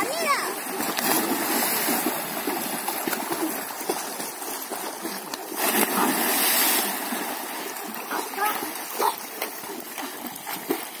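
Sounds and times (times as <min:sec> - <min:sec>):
children splashing in water: 0:00.0 - 0:11.0.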